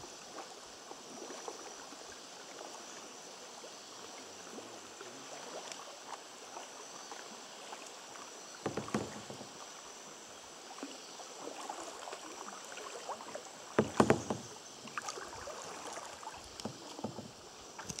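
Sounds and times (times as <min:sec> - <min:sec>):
wash of moving water: 0:00.0 - 0:18.0
paddle splashing in water: 0:00.2 - 0:18.0.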